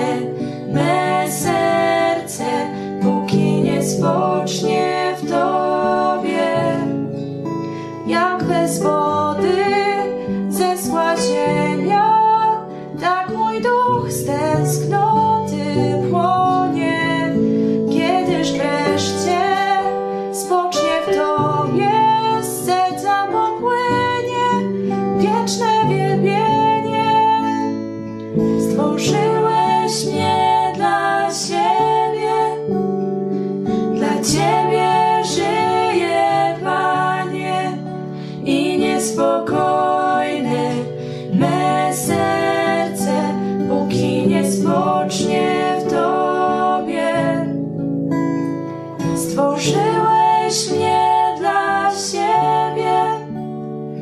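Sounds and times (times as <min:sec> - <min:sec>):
held melody line: 0:00.0 - 0:53.6
acoustic guitar accompaniment: 0:00.0 - 0:54.0.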